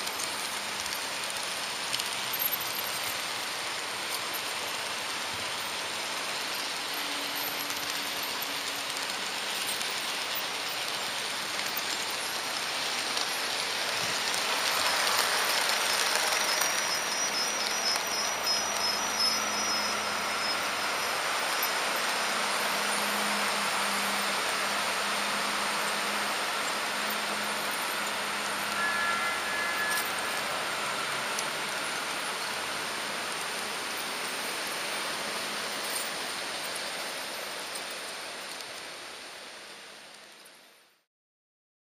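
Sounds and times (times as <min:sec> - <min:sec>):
model train wheels on rails: 0:00.0 - 0:41.0.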